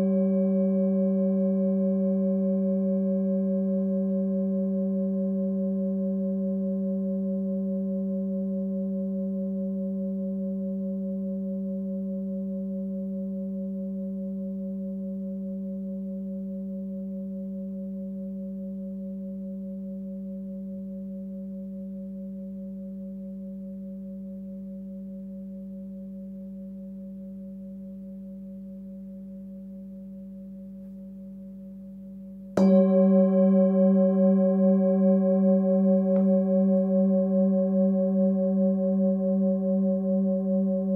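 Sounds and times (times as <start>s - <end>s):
singing bowl ringing: 0.0s - 40.9s.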